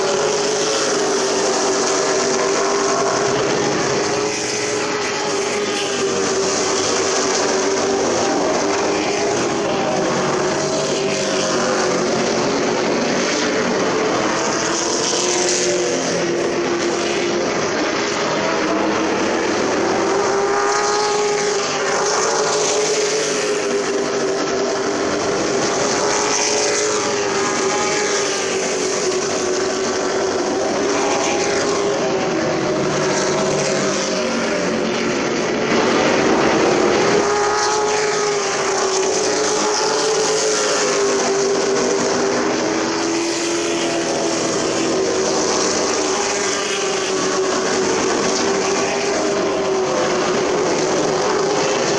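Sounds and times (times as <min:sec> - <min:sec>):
race truck engines roaring past: 0:00.0 - 0:51.9.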